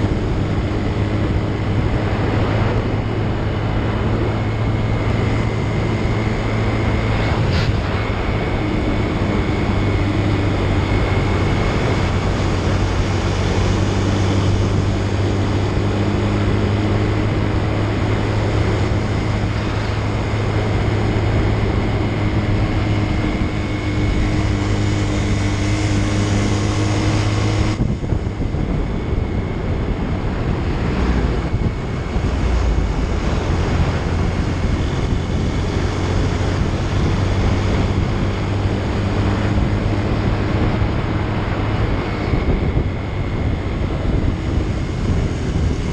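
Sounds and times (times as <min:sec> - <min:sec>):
motorcycle engine running: 0:00.0 - 0:45.9
wind rush on microphone: 0:00.0 - 0:45.9.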